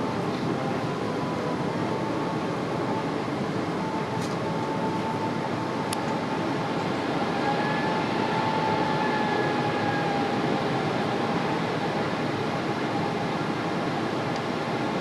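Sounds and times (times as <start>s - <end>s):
airliner cabin rushing hum: 0.0s - 15.0s
faint engine whine: 0.0s - 15.0s.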